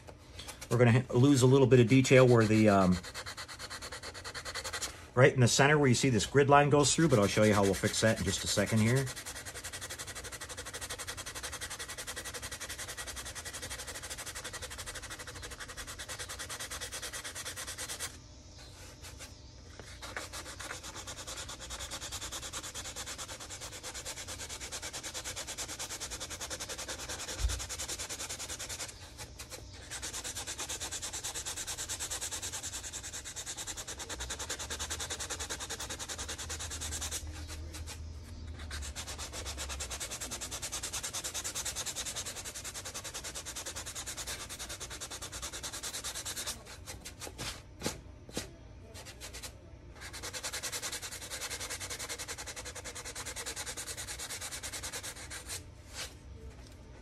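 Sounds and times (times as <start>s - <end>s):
sandpaper rubbing on plastic: 0.0s - 5.0s, 5.9s - 56.2s.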